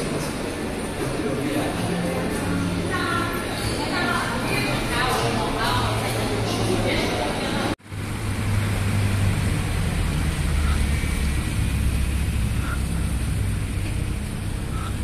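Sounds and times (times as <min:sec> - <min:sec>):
cars rumbling on road: 0:00.0 - 0:15.0.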